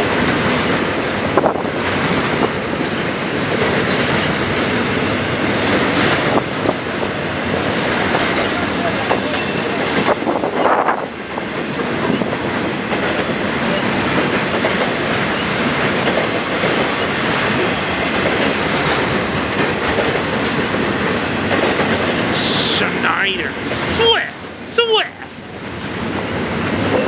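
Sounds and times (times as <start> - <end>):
train wheels rumbling on rail: 0.0 - 23.5.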